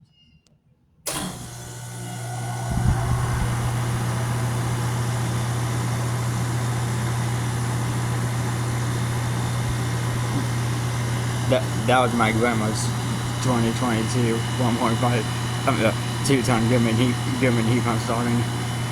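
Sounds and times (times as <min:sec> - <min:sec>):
compressor humming: 0:01.1 - 0:18.9
heat pump fan starting up: 0:01.1 - 0:18.9.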